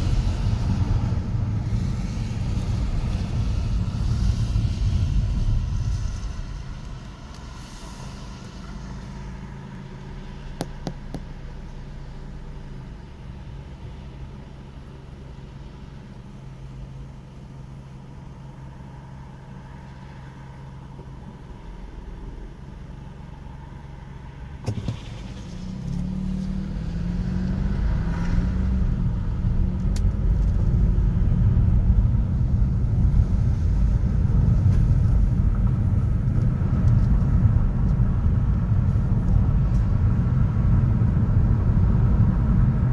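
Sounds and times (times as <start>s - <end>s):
heavy vehicle rumble: 0.0s - 42.9s
traffic engine hum: 0.0s - 42.9s.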